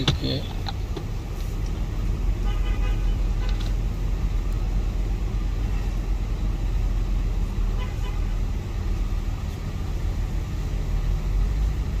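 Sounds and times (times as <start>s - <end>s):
low rumble of vehicle noise: 0.0s - 12.0s.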